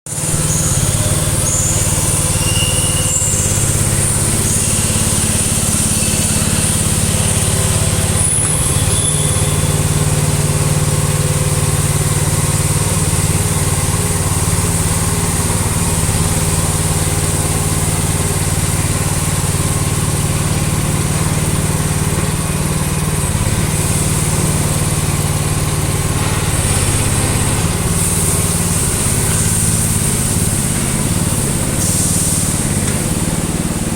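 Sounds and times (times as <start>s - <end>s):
excavator engine running: 0.1s - 33.9s.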